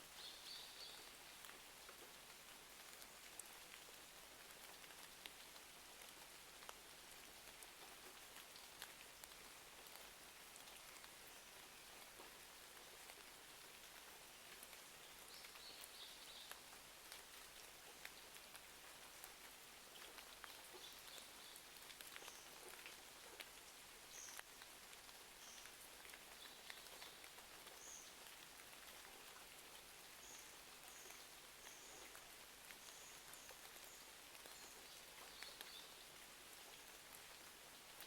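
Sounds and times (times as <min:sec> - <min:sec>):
rain hiss: 0:00.0 - 0:38.0.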